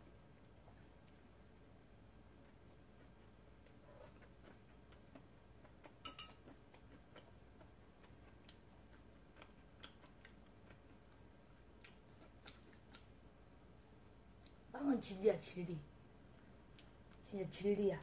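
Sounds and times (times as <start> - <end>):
chewing soft bread: 0.0 - 14.7, 16.1 - 17.3.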